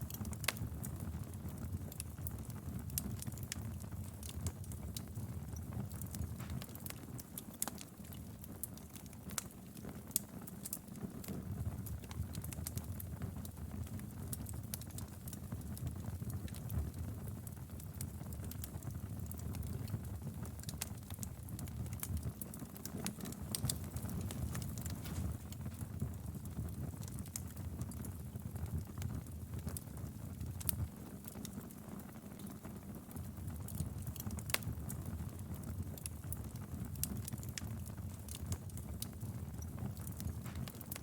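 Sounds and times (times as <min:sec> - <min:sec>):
fire crackling and popping: 0:00.0 - 0:41.0
low rumble of flames: 0:00.0 - 0:41.0.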